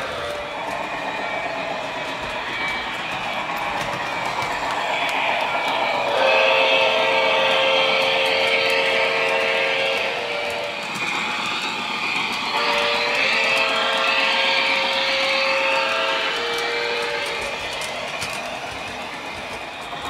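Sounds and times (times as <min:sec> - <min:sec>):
train rolling on track: 0:00.0 - 0:20.0.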